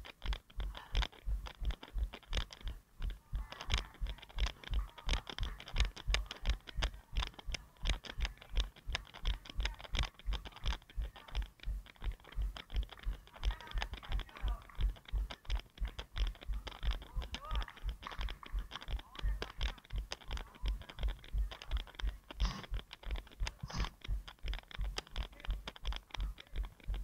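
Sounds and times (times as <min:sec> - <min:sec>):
running footfalls: 0:00.0 - 0:27.0.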